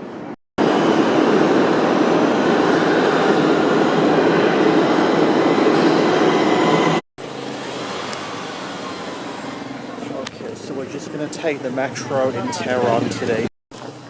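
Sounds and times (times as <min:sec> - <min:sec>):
train rumbling on rails: 0:00.0 - 0:12.2.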